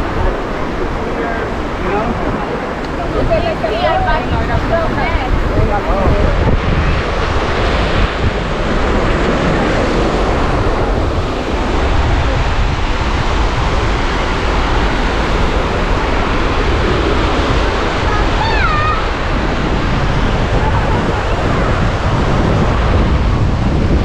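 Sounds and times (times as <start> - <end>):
surf washing onto beach: 0.0 - 24.0
wind buffeting microphone: 0.0 - 24.0.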